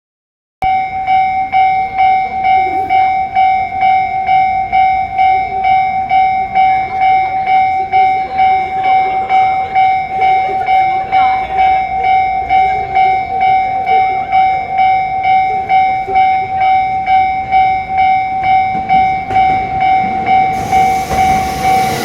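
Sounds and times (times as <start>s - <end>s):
level crossing warning bell: 0.6s - 22.0s.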